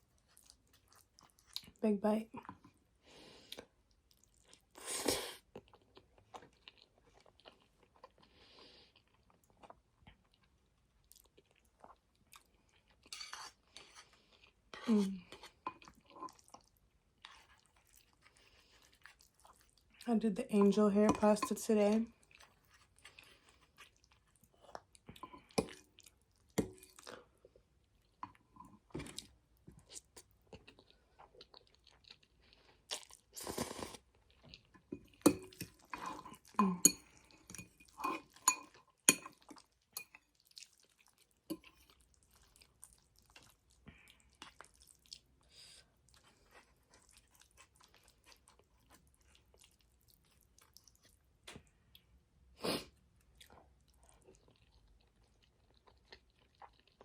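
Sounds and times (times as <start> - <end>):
wet chewing and mouth sounds: 0.0 - 1.8, 2.4 - 57.0.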